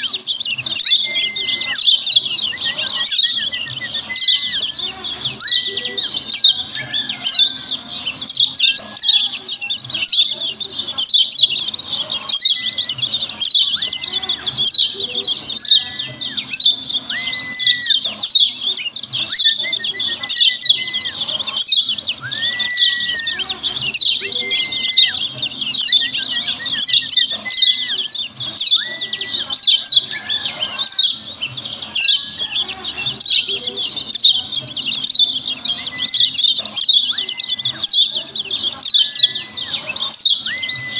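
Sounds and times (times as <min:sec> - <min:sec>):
sharp high bird chirps: 0:00.0 - 0:40.9.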